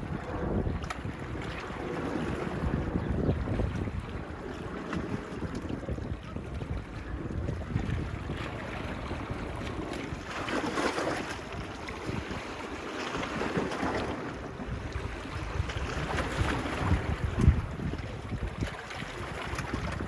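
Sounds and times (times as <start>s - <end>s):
waves washing onto beach: 0.0s - 20.0s
wind buffeting microphone: 0.0s - 20.0s.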